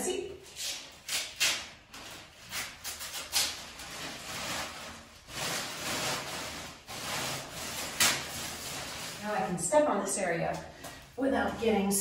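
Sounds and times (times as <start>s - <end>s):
plastic sheet crinkling: 0.6s - 11.7s.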